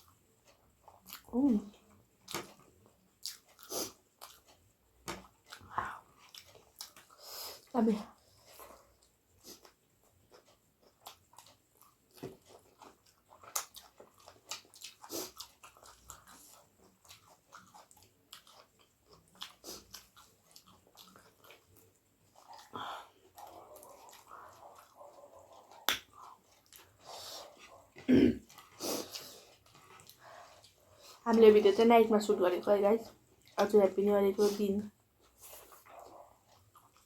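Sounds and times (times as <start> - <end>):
person chewing: 0.0 - 31.3, 35.0 - 37.0.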